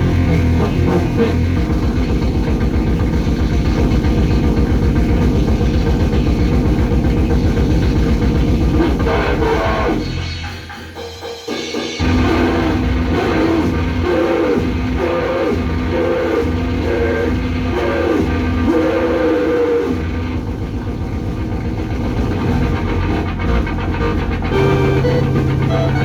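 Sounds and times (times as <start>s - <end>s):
fast noise music with guitar and drums: 0.0s - 26.0s.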